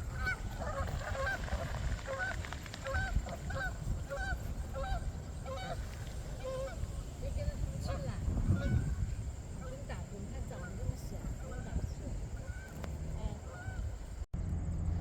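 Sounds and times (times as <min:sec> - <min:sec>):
geese honking: 0:00.0 - 0:14.2
steady low rumble: 0:00.0 - 0:15.0.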